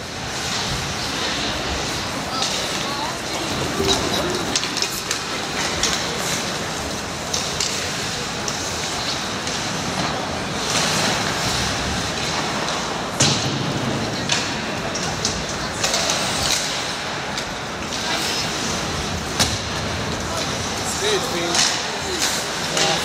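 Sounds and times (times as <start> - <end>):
skate blades scraping ice: 0.0 - 23.0
hockey sticks and puck clicking: 0.1 - 23.0.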